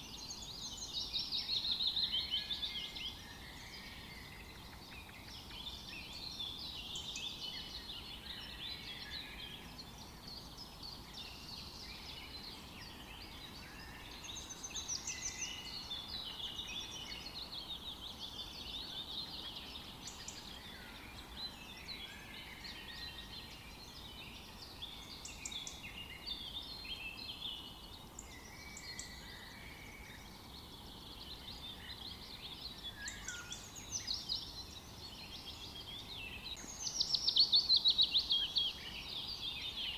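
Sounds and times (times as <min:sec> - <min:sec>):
birds chirping and trilling: 0:00.0 - 0:39.9
low background hiss: 0:00.0 - 0:39.9.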